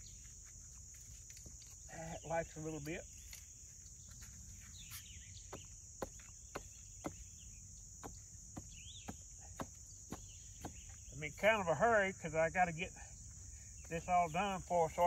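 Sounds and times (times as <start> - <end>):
crickets chirping drone: 0.0 - 15.0.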